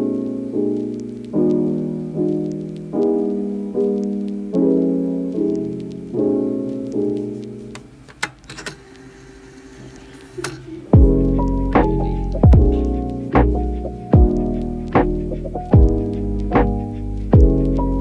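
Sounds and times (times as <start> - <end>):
soft piano chords: 0.0 - 8.1, 8.8 - 18.0.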